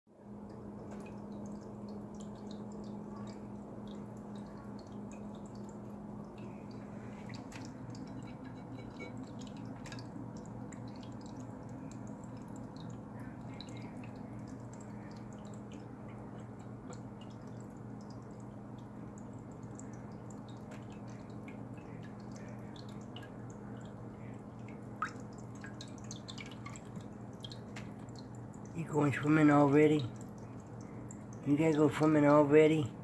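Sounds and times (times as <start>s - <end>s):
water trickling and dripping: 0.1s - 33.0s.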